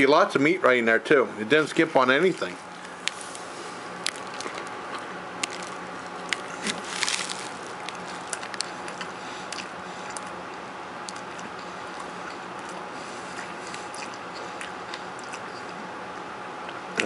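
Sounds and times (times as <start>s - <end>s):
person chewing crunchy food: 2.3s - 17.0s.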